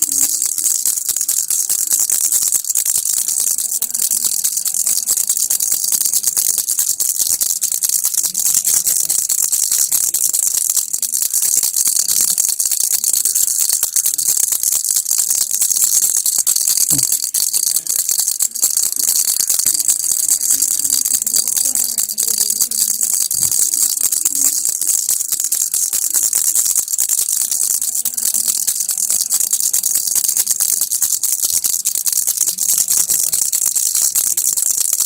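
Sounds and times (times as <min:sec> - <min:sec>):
baby rattle rattling: 0:00.0 - 0:35.0.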